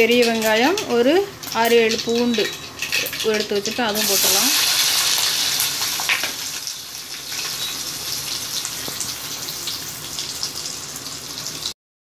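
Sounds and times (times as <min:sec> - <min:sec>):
faint crackles of frying: 0:00.0 - 0:11.8
vegetables sizzling in hot oil: 0:00.0 - 0:11.8.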